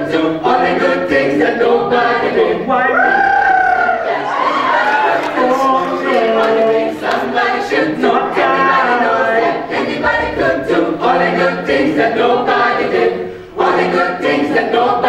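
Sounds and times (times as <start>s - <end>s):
mixed choir singing a cappella: 0.0s - 15.0s.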